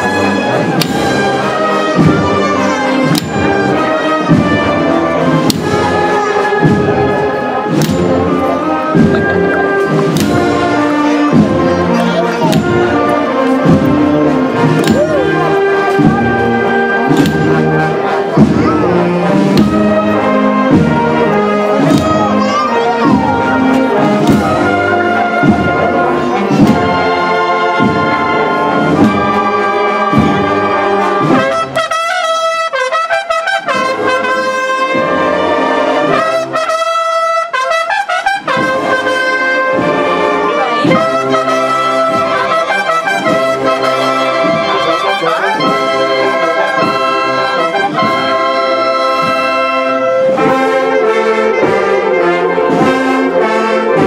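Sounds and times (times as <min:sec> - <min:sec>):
brass band playing a slow march: 0:00.0 - 0:54.0.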